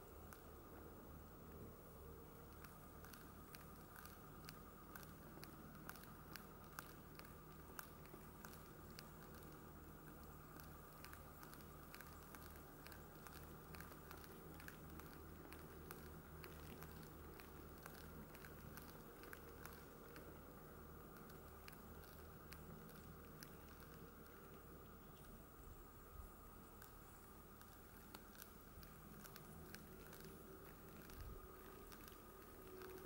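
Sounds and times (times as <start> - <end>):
faint steady hum: 0.0 - 33.0
ice and slush clicking: 2.5 - 25.3, 26.7 - 33.0.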